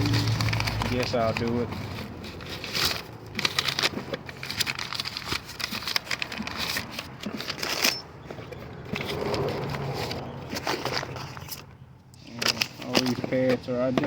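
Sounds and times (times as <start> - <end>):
packaging crinkling: 0.0 - 13.2.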